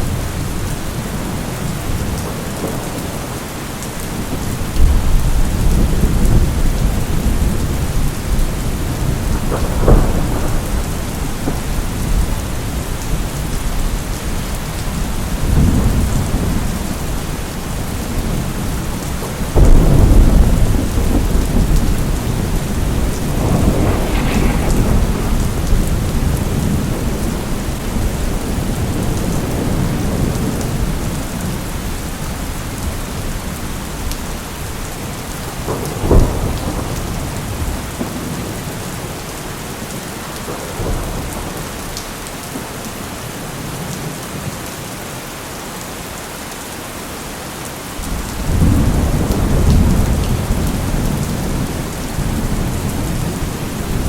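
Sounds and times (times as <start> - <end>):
rolling thunder: 0.0 - 42.0, 48.1 - 54.0
heavy rain: 0.0 - 54.0.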